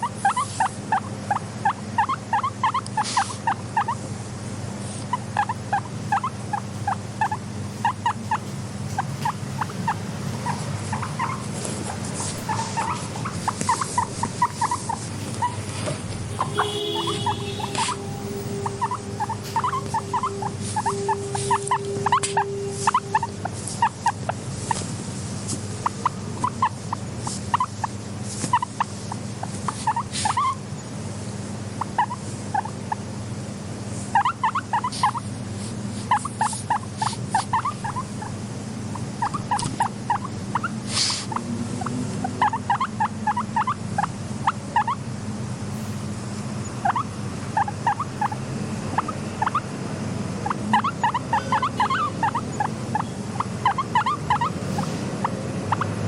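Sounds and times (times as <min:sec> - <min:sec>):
guinea pig chirping: 0:00.0 - 0:04.1, 0:04.8 - 0:30.9, 0:31.7 - 0:33.1, 0:34.0 - 0:45.1, 0:46.6 - 0:49.8, 0:50.4 - 0:56.0
steady low hum: 0:00.0 - 0:56.0.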